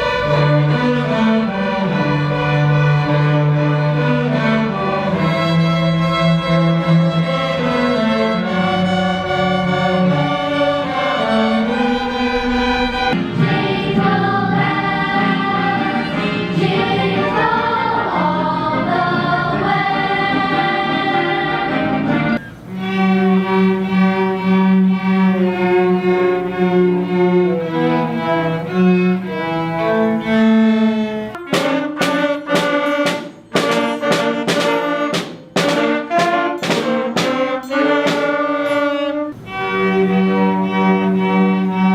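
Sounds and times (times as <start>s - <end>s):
orchestra bowed strings: 0.0s - 41.9s.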